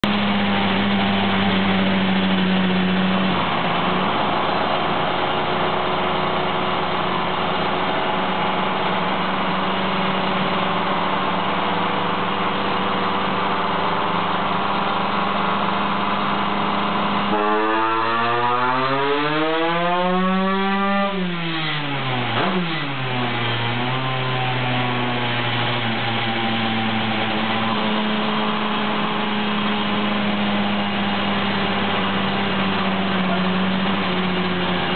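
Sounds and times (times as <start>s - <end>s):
two-stroke kart engine revving: 0.0s - 34.9s.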